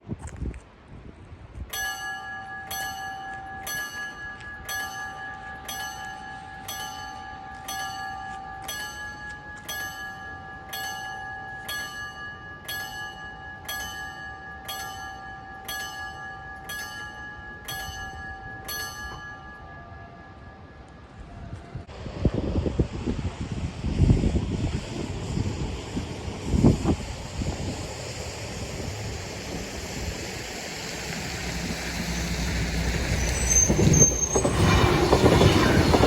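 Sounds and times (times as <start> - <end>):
level-crossing warning bell ringing: 1.7 - 21.9, 26.0 - 36.0.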